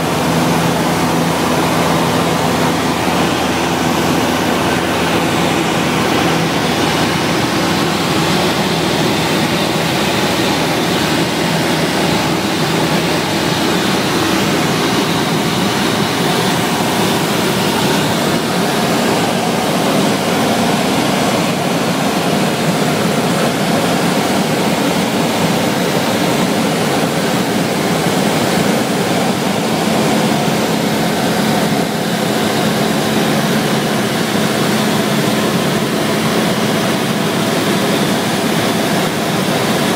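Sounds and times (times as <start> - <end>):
aircraft engine and propeller: 0.0 - 39.9
loud rush of air: 0.0 - 39.9.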